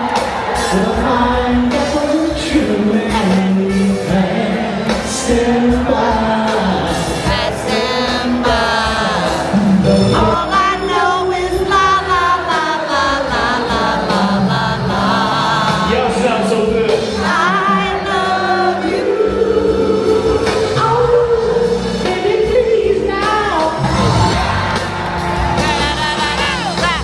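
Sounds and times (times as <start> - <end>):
soul band playing: 0.0 - 27.0
voices singing together: 0.0 - 27.0.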